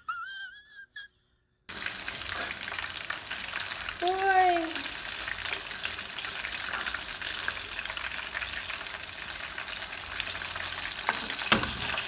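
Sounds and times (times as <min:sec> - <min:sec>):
food frying in hot oil: 0:01.7 - 0:12.0.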